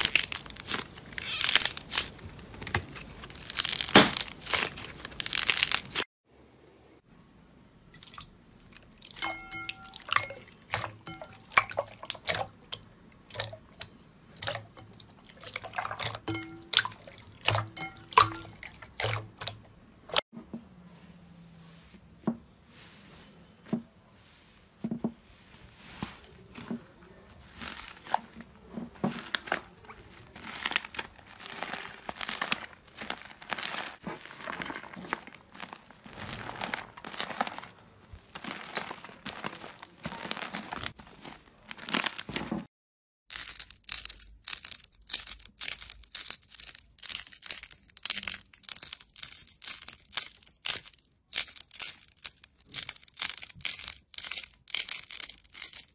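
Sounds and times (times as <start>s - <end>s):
slime squelching and crackling: 0.0s - 6.1s, 8.0s - 20.2s, 27.2s - 42.7s, 43.3s - 55.9s.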